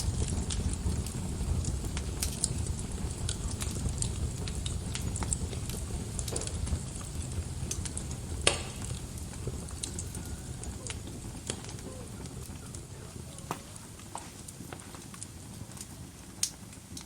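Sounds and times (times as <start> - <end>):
loud pop of fire: 0.0 - 17.0
wood fire crackling: 0.0 - 17.0.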